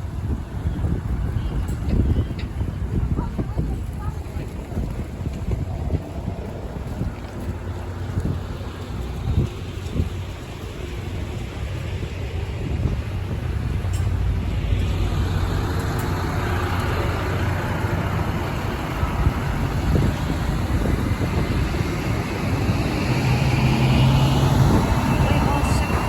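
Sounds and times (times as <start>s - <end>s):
bus engine humming: 0.0s - 26.0s
road noise: 0.0s - 26.0s.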